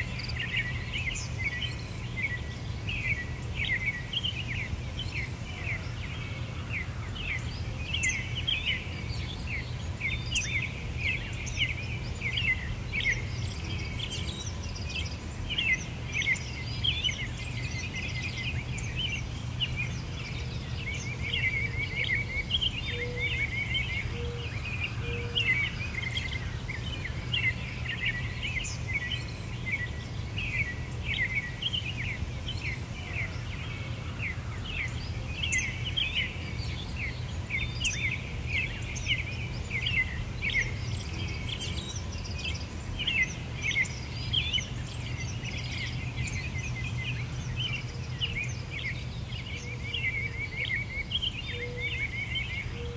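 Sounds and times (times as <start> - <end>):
small birds chirping and trilling: 0.0 - 52.9.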